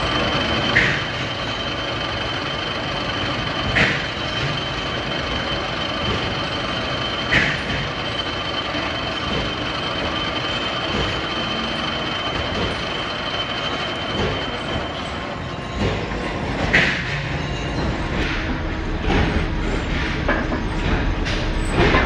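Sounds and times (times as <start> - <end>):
factory machinery whining: 0.0 - 22.0.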